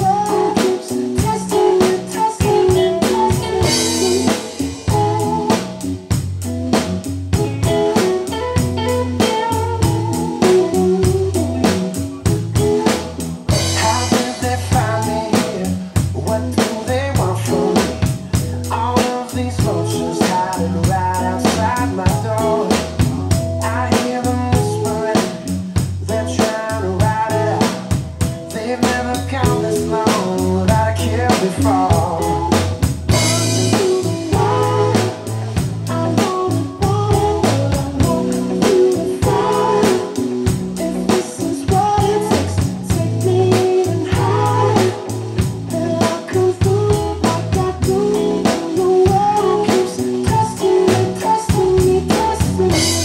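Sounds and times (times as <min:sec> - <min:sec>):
band playing groove: 0:00.0 - 0:53.0
drum kit beat: 0:00.0 - 0:53.0.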